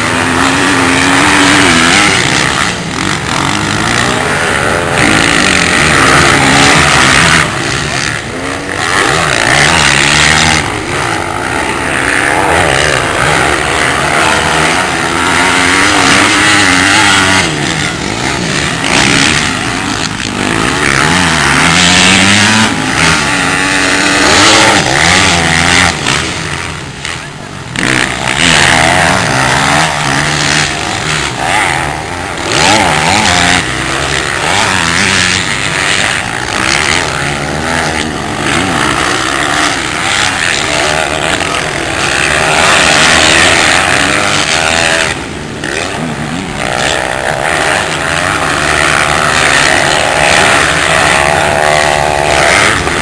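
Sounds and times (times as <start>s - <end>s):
motocross bike engines revving: 0.0s - 53.0s.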